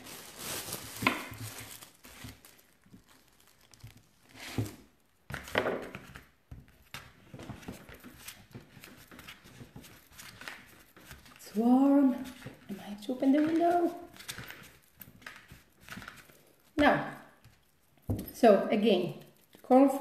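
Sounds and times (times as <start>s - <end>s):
hands working sugarpaste: 0.0s - 18.4s.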